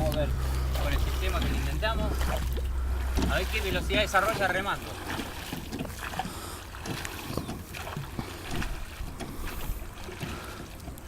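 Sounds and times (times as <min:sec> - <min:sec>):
light knocks of rowing: 0:00.0 - 0:11.0
oars splashing in water: 0:00.0 - 0:11.0.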